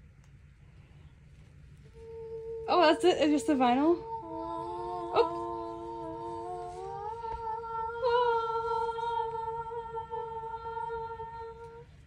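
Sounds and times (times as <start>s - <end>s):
voices humming long notes: 1.8s - 12.0s.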